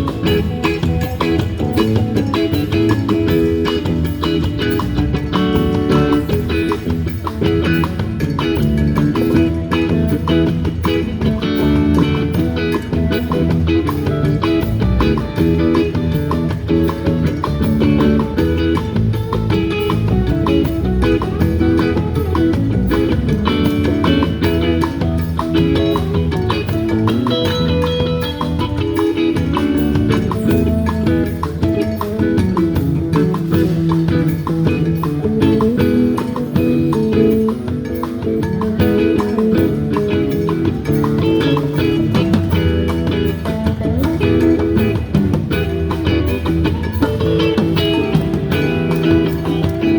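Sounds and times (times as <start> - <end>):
live band playing instrumental: 0.0 - 49.9.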